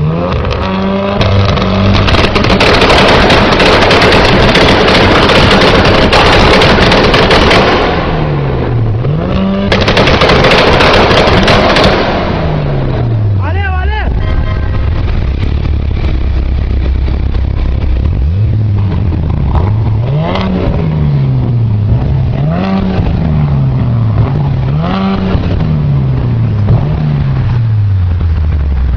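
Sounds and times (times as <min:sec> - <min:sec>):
car engine idling and revving: 0:00.0 - 0:28.9.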